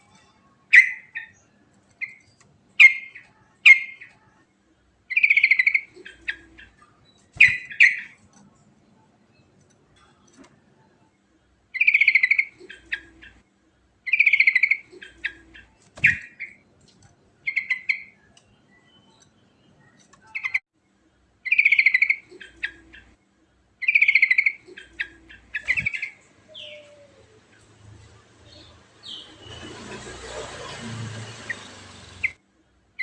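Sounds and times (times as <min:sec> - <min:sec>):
bird singing rattling phrases: 0:00.1 - 0:04.4, 0:05.1 - 0:08.6, 0:11.7 - 0:13.4, 0:14.0 - 0:20.6, 0:21.4 - 0:23.2, 0:23.8 - 0:32.4.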